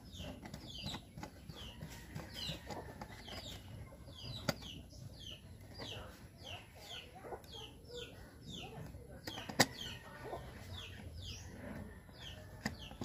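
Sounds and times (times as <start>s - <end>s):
chickens peeping: 0.0s - 13.0s.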